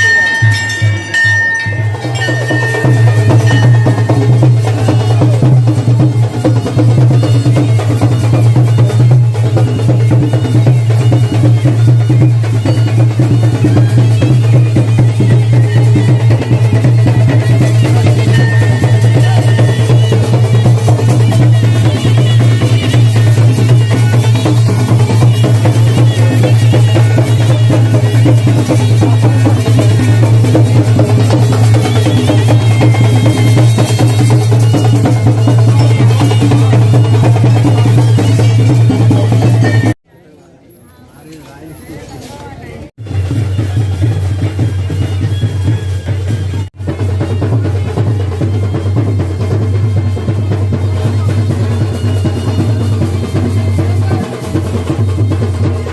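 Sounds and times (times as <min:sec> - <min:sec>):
fast folk drumming: 0:00.0 - 0:40.0, 0:42.9 - 0:55.9.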